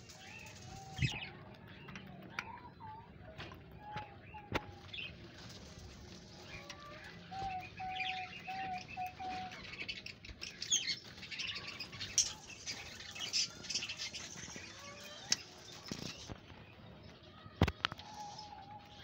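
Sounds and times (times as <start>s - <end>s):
rabbits chewing: 0.0s - 19.0s.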